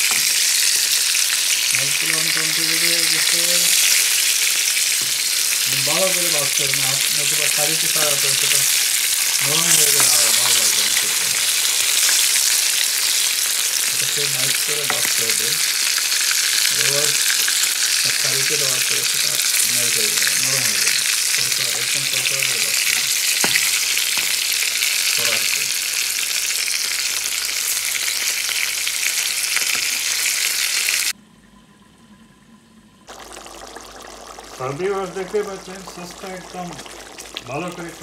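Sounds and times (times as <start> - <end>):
fish sizzling in hot oil: 0.0 - 31.2, 33.1 - 38.0.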